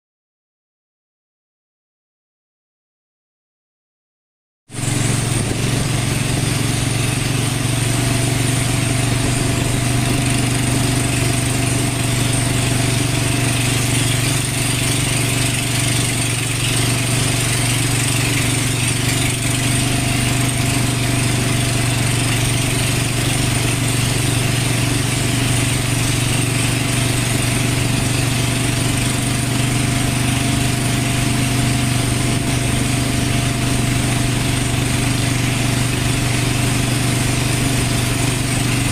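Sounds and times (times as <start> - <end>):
boat motor running: 4.7 - 38.9.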